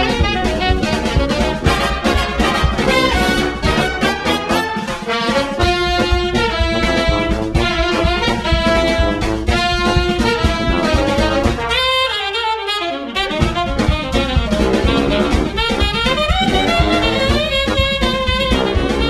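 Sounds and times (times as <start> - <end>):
drum beat: 0.0 - 12.1, 13.2 - 19.0
upbeat jazz with horns: 0.0 - 19.0.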